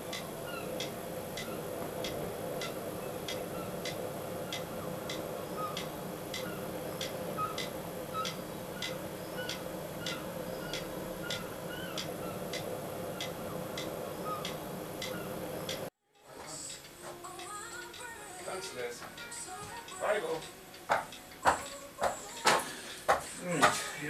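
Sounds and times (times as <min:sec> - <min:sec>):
clock ticking: 0:00.0 - 0:15.9, 0:19.0 - 0:23.8
low background hum: 0:00.0 - 0:24.0.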